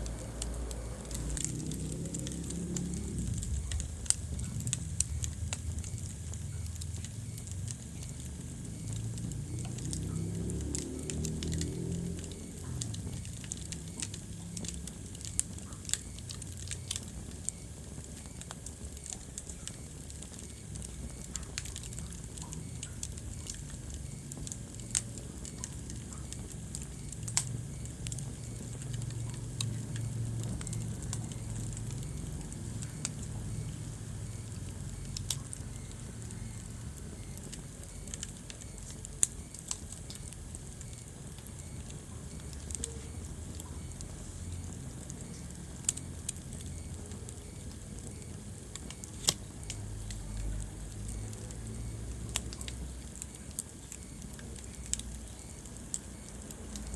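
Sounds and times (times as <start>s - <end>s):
low rumble of fire flames: 0.0s - 56.9s
wood fire crackling and popping: 0.0s - 56.9s.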